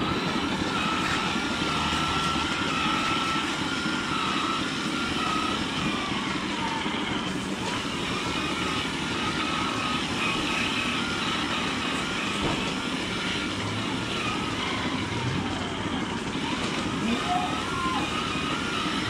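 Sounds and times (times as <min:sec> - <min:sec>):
faint whines: 0:00.0 - 0:19.0
milking machinery running: 0:00.0 - 0:19.0.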